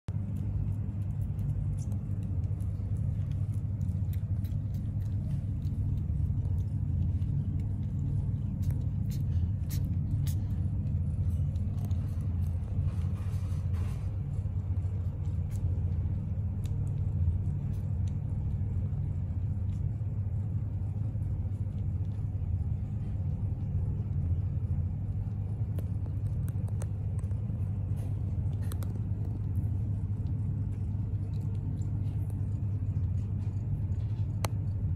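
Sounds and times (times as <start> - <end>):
cat purring: 0.1 - 34.9
kittens suckling clicks: 0.1 - 34.9.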